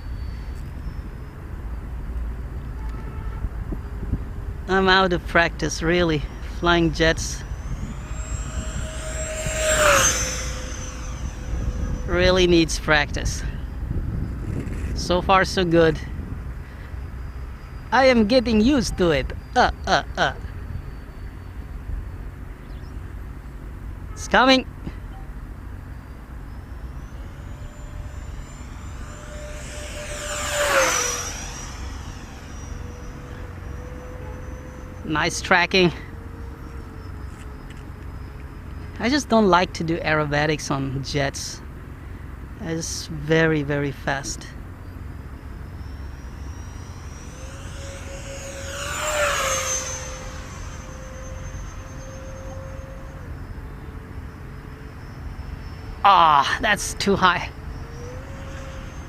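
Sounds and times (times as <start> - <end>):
electric ducted fan jet whining: 0.0 - 59.0.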